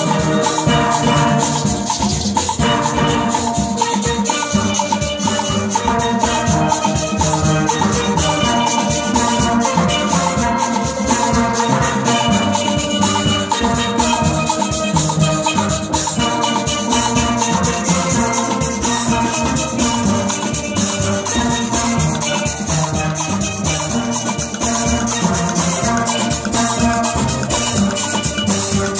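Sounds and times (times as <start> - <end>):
percussion ticks: 0.0 - 28.9
steel band playing: 0.0 - 28.9.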